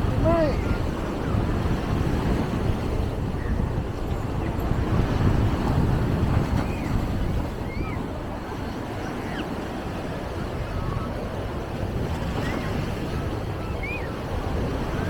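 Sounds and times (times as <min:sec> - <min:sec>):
waves washing against shore: 0:00.0 - 0:15.0
wind buffeting microphone: 0:00.0 - 0:15.0.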